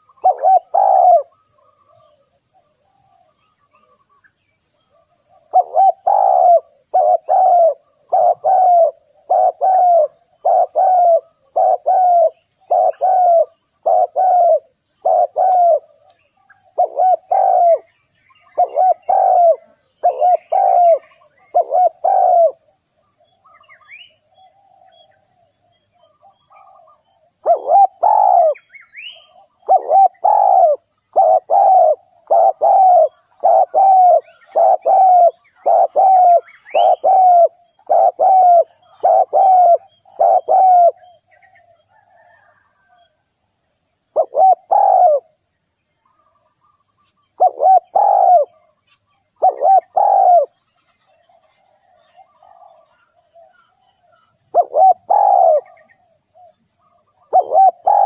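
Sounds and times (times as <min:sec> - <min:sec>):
dove cooing: 0:00.0 - 0:04.1, 0:04.8 - 0:22.7, 0:23.4 - 0:43.2, 0:44.1 - 0:45.4, 0:46.1 - 0:58.0
faint bird chirps: 0:00.0 - 0:58.0.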